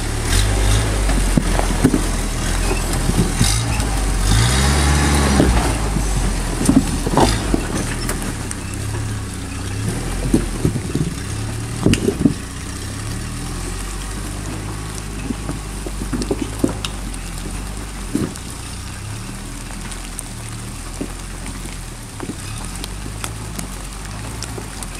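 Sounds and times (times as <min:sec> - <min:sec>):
engine running at low revs: 0:00.0 - 0:24.9.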